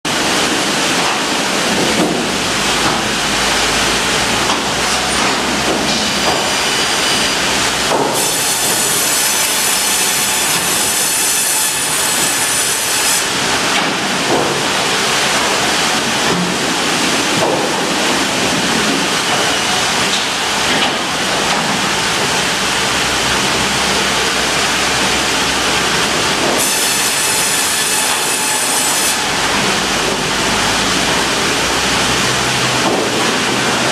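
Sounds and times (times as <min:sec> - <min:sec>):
log bandsaw running: 0:00.1 - 0:33.9.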